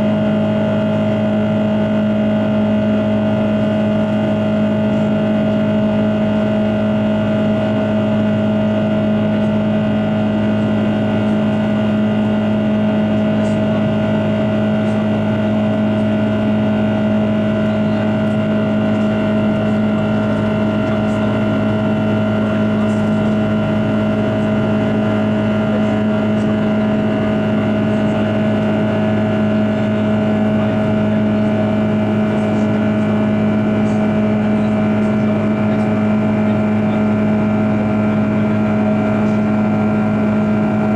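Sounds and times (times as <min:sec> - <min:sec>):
jet engine drone: 0:00.0 - 0:40.9.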